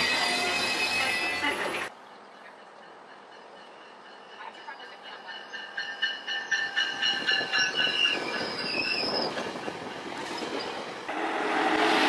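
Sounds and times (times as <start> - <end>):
train wheels squealing: 0.0 - 1.7, 2.9 - 10.9
clickety-clack of wheels on rail joints: 0.0 - 11.2
rumble of passing train coaches: 0.0 - 12.0.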